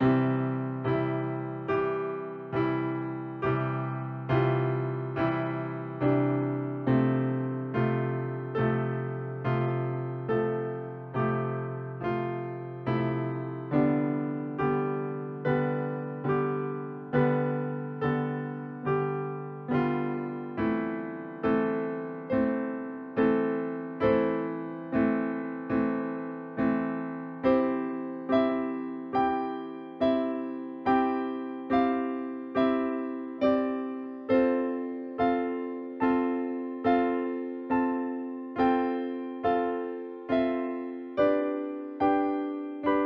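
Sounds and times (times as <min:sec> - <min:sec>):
slow piano chords: 0:00.0 - 0:43.0.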